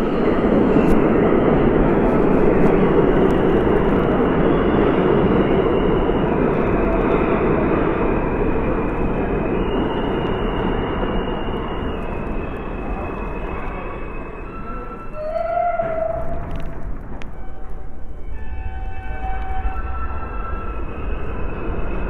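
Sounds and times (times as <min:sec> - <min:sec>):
subway wheels rumbling on rails: 0:00.0 - 0:22.0.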